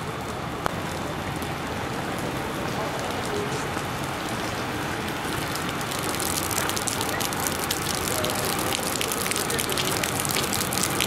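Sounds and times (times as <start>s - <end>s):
rain falling with crackling patter: 0.0s - 11.0s.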